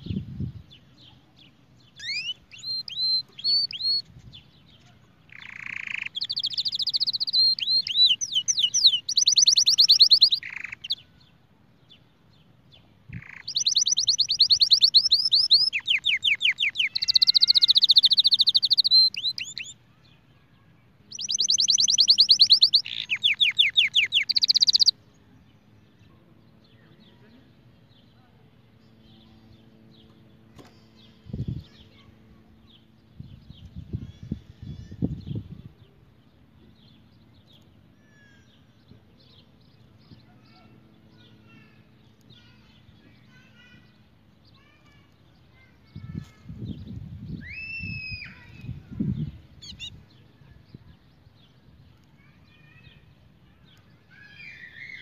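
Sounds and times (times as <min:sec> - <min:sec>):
canary singing trills: 0:00.0 - 0:20.4, 0:21.0 - 0:25.0, 0:25.6 - 0:55.0.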